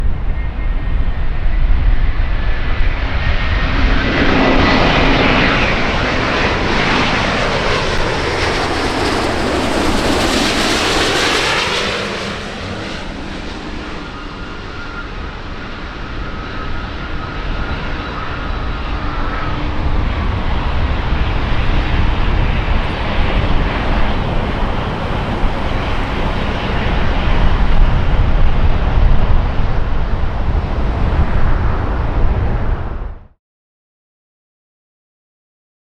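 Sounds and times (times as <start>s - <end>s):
deep jet rumble: 0.0s - 33.4s
jet engine whine: 0.0s - 33.4s.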